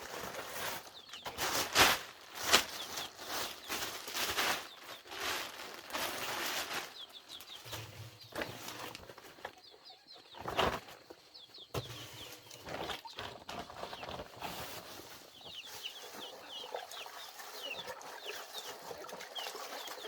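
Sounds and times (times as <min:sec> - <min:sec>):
chickens rustling and flapping wings: 0:00.0 - 0:20.0
chicks peeping: 0:00.1 - 0:20.0.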